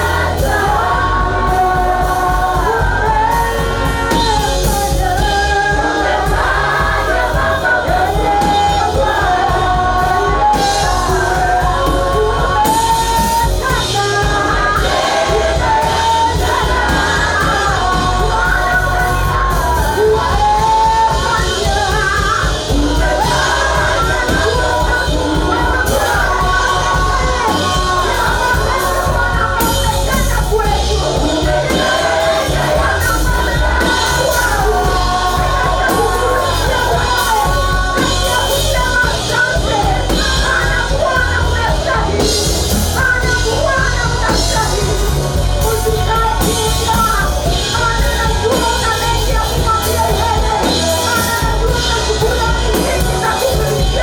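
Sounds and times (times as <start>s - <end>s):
band with drums and bass: 0.0s - 54.0s
voices singing worship song: 0.0s - 54.0s.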